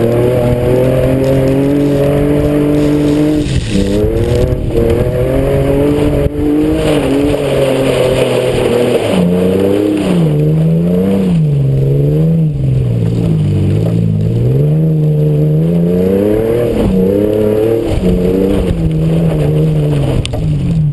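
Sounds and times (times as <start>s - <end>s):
car exhaust revving: 0.0s - 20.9s.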